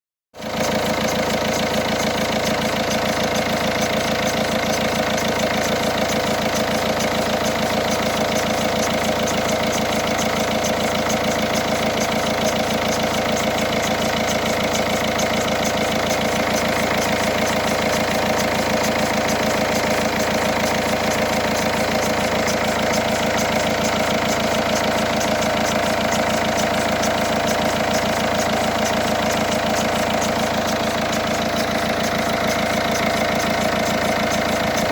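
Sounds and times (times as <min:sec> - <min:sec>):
diesel engine idling: 0:00.4 - 0:34.9
fast even rattle: 0:00.4 - 0:34.9.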